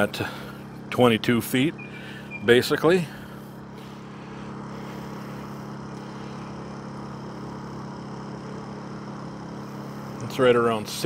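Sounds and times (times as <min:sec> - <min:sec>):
generator engine hum: 0:00.0 - 0:11.0.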